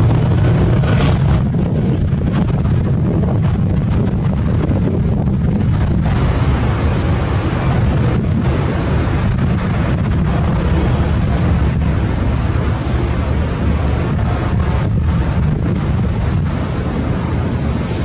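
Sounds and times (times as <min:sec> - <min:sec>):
jet engine noise: 0:00.0 - 0:18.0
wind buffeting microphone: 0:00.0 - 0:18.0.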